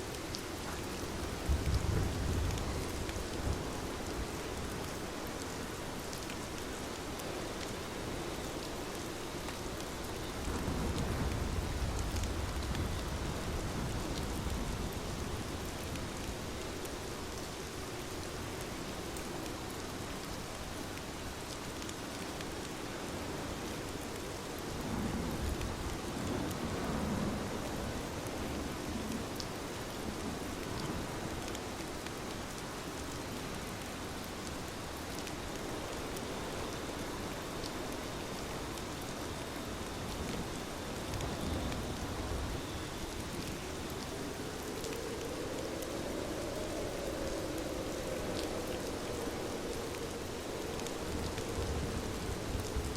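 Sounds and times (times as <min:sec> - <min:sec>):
heavy rain falling: 0:00.0 - 0:52.9
raindrops ticking on a surface: 0:00.0 - 0:52.9.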